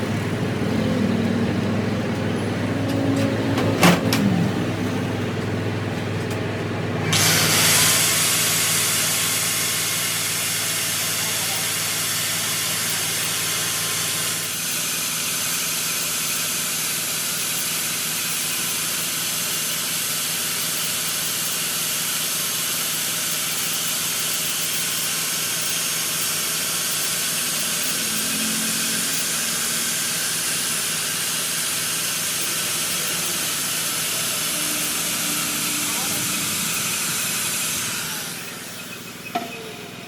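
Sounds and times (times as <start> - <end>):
workshop machinery hissing: 0.0 - 40.0.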